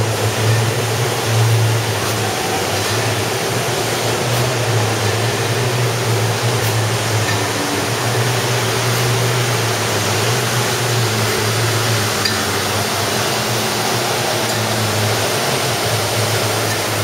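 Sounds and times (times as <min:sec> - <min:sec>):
low machine hum: 0:00.0 - 0:17.0
mechanical rush of conveyors: 0:00.0 - 0:17.0.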